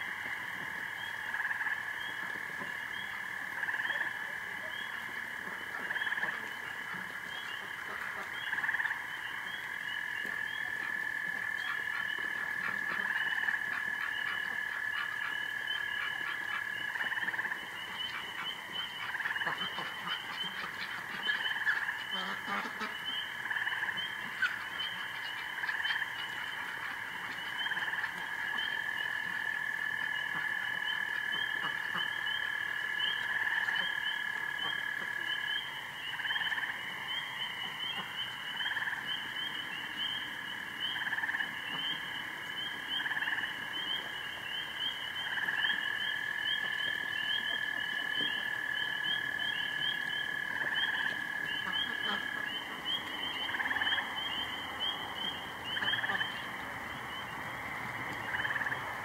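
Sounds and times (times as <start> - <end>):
clicking frog calls: 0.0 - 59.0
rapid high-pitched frog calls: 0.0 - 59.0
frog trilling: 0.9 - 59.0.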